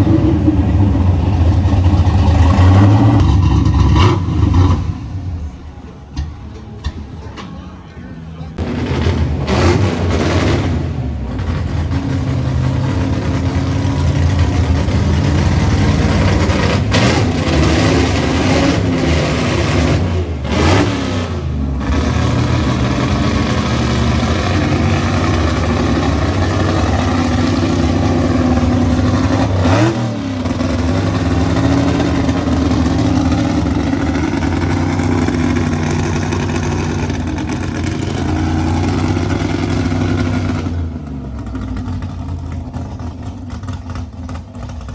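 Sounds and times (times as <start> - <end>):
car engine running loudly: 0.0 - 44.9.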